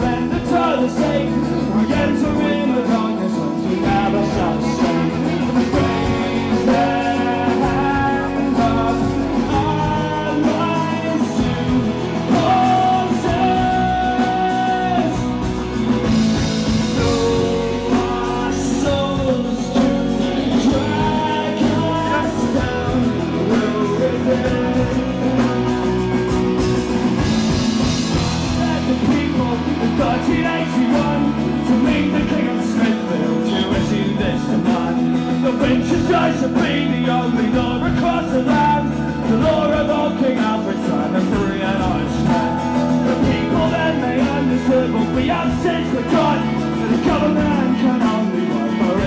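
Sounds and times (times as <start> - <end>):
melodic lead line: 0.0 - 49.0
strummed guitar: 0.0 - 49.0
steady beat: 3.7 - 47.7.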